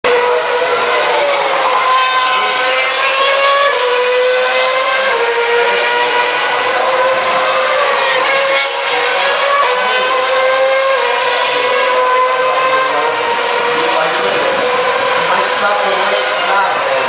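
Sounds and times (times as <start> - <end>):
race car engine high revs: 0.1 - 17.0.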